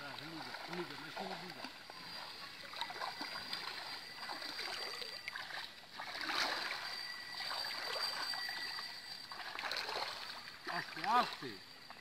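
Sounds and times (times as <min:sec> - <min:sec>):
people wading through water: 0:00.0 - 0:12.0.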